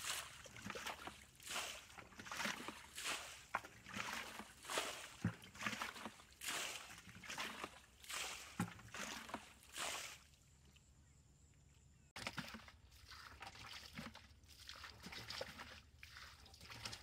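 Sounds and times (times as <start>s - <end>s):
bucket splashing in muddy water: 0.0s - 10.8s, 12.2s - 17.0s
water sloshing: 0.0s - 10.9s, 12.2s - 17.0s.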